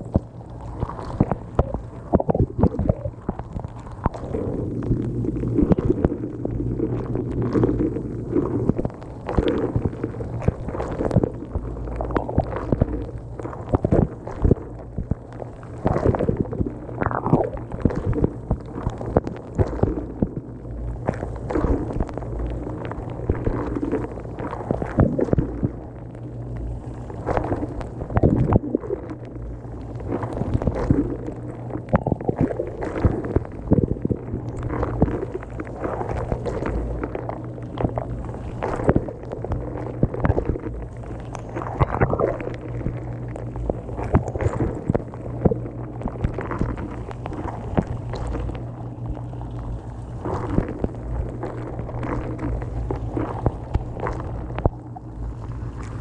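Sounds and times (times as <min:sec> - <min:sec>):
dishwasher low hum: 0:00.0 - 0:56.0.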